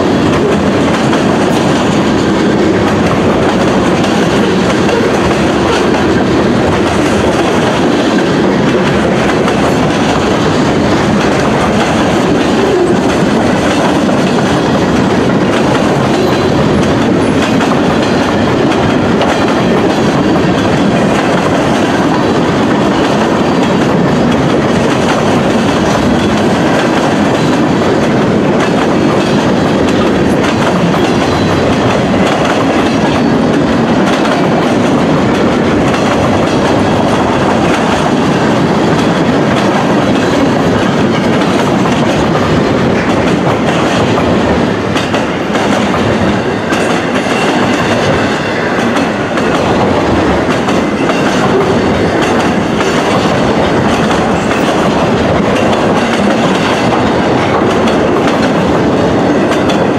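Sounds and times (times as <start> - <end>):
freight train wheels rushing on rails: 0.0 - 59.9.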